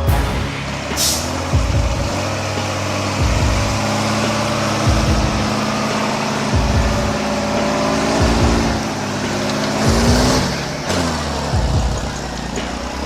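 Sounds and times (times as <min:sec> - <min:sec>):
heavy truck engine under load: 0:00.0 - 0:13.0
low thumps: 0:00.0 - 0:13.0.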